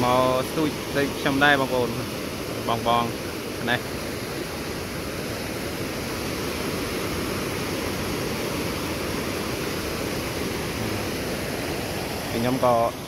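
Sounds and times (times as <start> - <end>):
water rushing over weir: 0.0 - 13.0.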